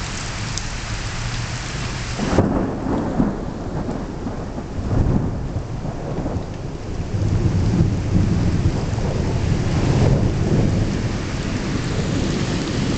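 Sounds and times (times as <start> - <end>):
steady rain: 0.0 - 12.9
rolling thunder: 2.1 - 12.9.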